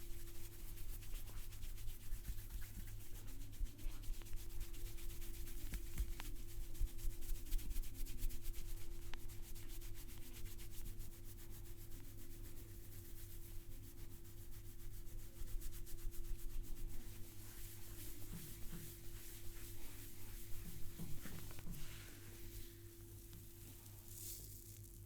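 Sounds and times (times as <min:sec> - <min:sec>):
hands rubbing through hair: 0:00.1 - 0:24.9.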